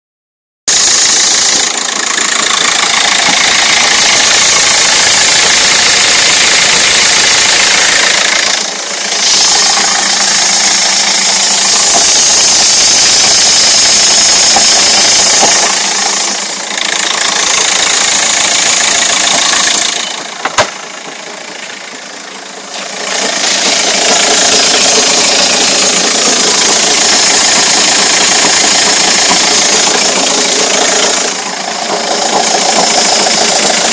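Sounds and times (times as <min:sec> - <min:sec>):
car engine running with a knock: 0:00.8 - 0:33.9.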